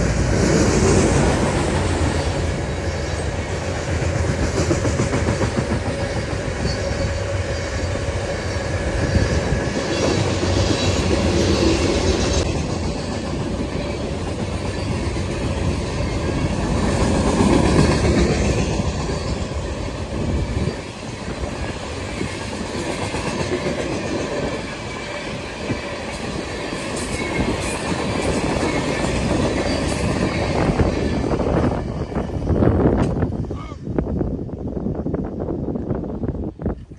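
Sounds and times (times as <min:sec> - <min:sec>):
train cars rumbling on rails: 0:00.0 - 0:36.9.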